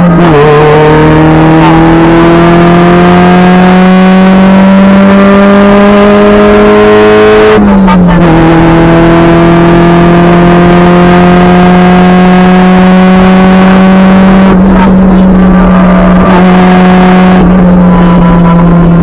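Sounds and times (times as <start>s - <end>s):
loud raspy car engine under load: 0.0s - 19.0s.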